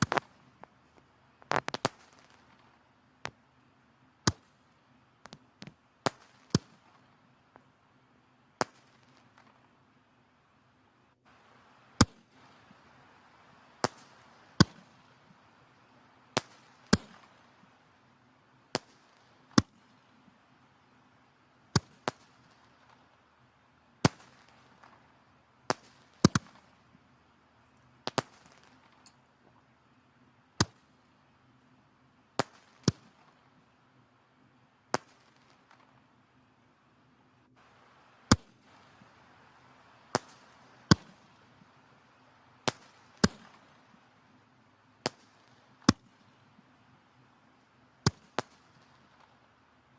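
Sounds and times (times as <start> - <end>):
firewood crackling and popping: 0.0 - 3.6, 4.2 - 7.8, 8.5 - 9.8, 11.2 - 31.3, 32.3 - 33.8, 34.8 - 36.1, 37.4 - 49.6
faint hiss of flames: 0.0 - 49.9.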